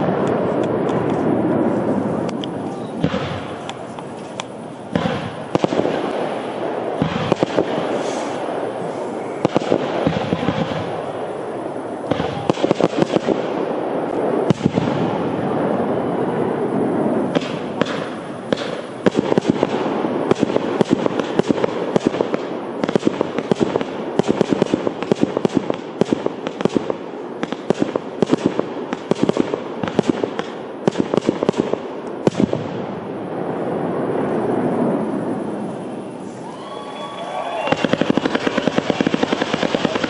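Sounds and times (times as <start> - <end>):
fireworks rumbling: 0.0 - 40.0.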